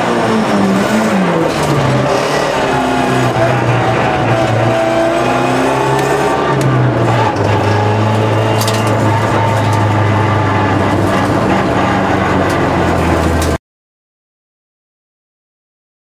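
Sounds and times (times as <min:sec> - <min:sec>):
car engine from inside cabin: 0:00.0 - 0:13.6.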